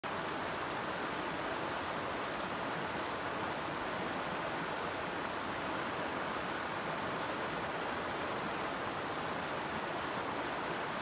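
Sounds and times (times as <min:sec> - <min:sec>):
shallow river flowing: 0:00.1 - 0:11.0.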